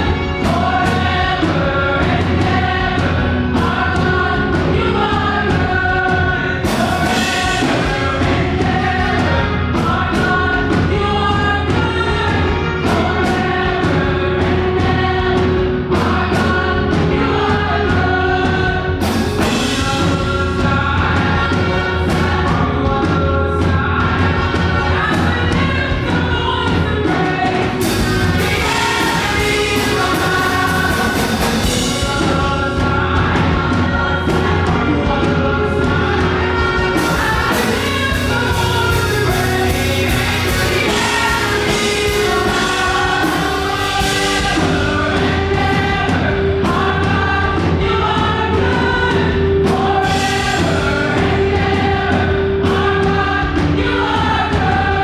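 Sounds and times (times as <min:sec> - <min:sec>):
band with steady drumbeat: 0:00.0 - 0:55.0
choir singing: 0:00.0 - 0:55.0.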